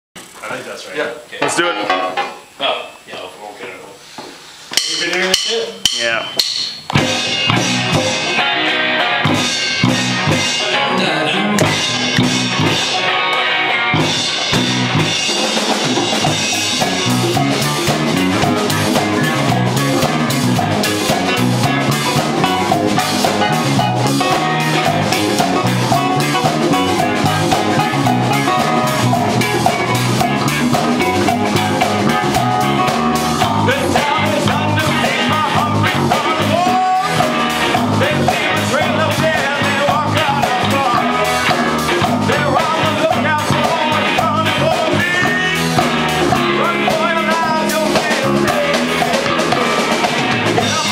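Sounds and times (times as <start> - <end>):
drum kit: 4.2 - 50.9
bass guitar: 4.8 - 50.9
congas: 4.8 - 50.9
electric guitar: 6.8 - 50.9.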